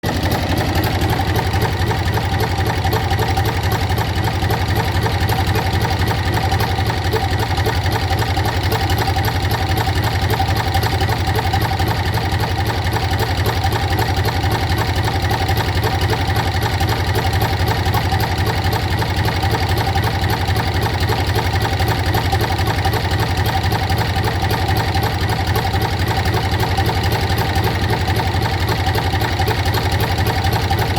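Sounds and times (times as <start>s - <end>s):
diesel engine running steadily: 0.0s - 30.9s.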